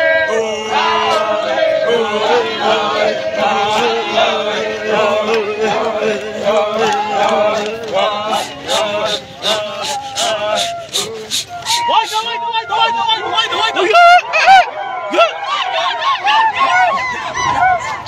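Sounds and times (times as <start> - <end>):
crowd chanting: 0.0 - 18.0.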